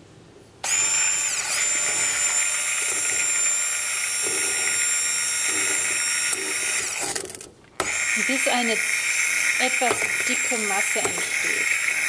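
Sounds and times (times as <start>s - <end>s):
stick blender whining: 0.6s - 12.0s.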